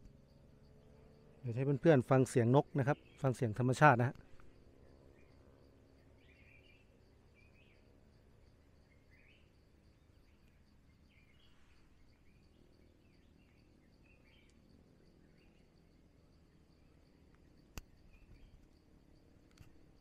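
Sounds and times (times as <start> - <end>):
faint songbird chirps: 0.0 - 20.0
high insect drone: 0.0 - 20.0.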